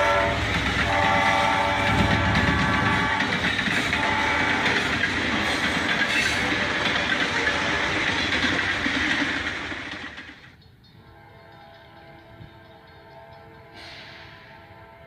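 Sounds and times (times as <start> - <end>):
wheels clattering on rails: 0.0 - 14.2
train rumbling past: 0.0 - 15.0.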